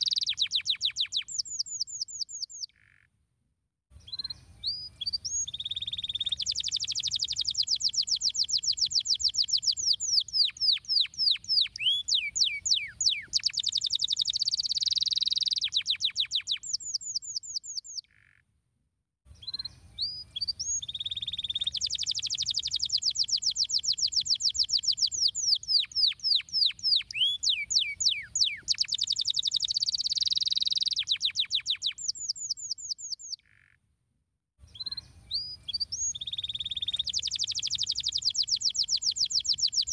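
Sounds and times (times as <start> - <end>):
canary singing fast trills: 0.0 - 3.0, 4.0 - 18.4, 19.4 - 33.8, 34.7 - 39.9.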